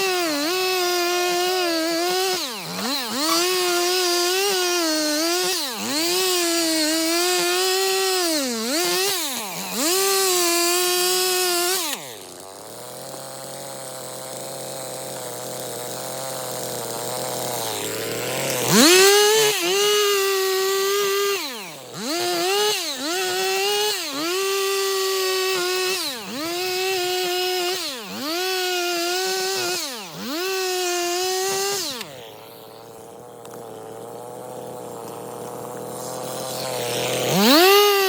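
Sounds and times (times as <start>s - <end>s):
chainsaw idling and revving: 0.0s - 38.0s.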